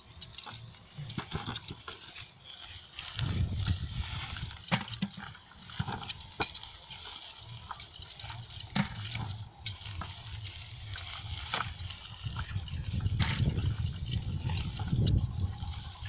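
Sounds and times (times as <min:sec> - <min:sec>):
onion tops rustling: 0:00.0 - 0:16.0.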